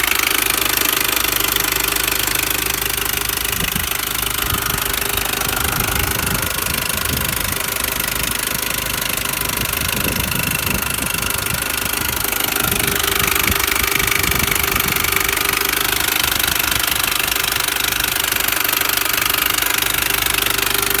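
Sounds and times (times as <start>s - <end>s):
car engine running: 0.0s - 21.0s
engine tapping and rattling: 0.0s - 21.0s.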